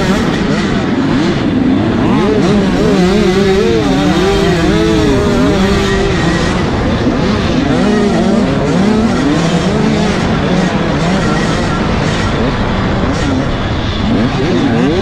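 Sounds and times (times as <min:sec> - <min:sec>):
dirt bike engine revving: 0:00.0 - 0:15.0
steady engine drone: 0:00.0 - 0:15.0.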